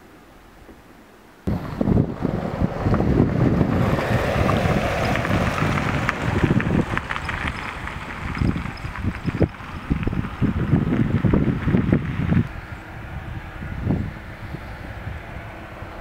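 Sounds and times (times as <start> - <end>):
wind buffeting microphone: 1.5 - 16.0.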